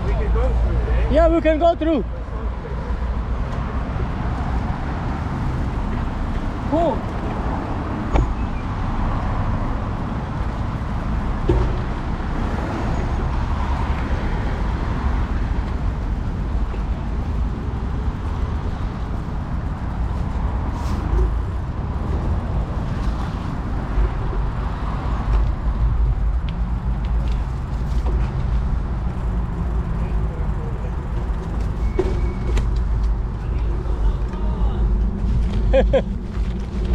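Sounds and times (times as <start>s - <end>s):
road traffic noise: 0.0s - 36.9s.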